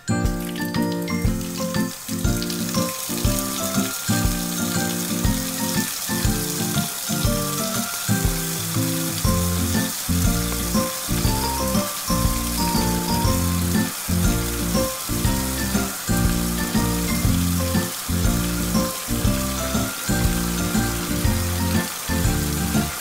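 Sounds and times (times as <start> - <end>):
background music with beat: 0.0 - 23.0
water running in sink: 0.0 - 23.0.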